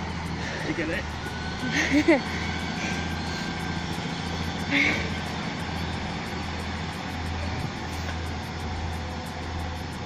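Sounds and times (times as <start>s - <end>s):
train diesel engine droning: 0.0s - 10.0s.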